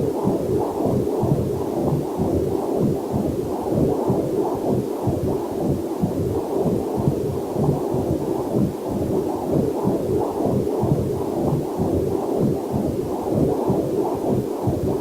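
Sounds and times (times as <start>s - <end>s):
fetal heartbeat whooshing pulses: 0.0s - 15.0s.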